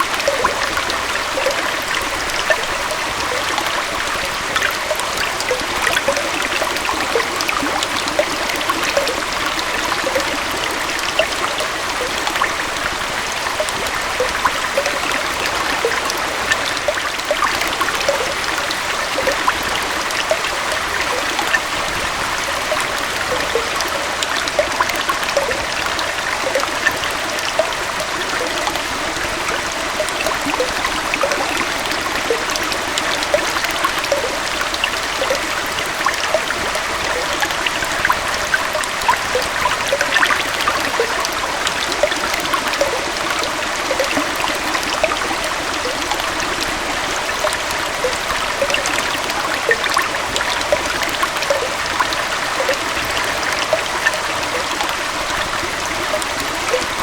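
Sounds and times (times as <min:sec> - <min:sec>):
waterfall and stream flowing: 0:00.0 - 0:57.0.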